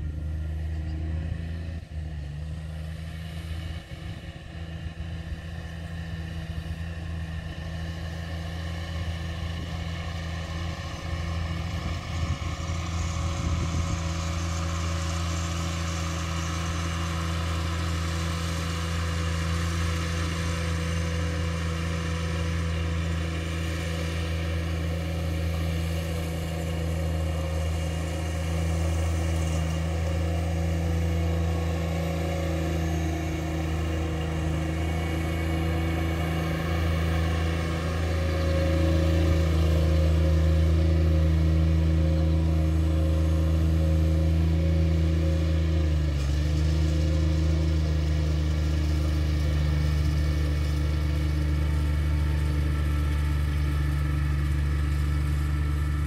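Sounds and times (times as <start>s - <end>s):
riding lawn mower engine running: 0.0s - 56.0s.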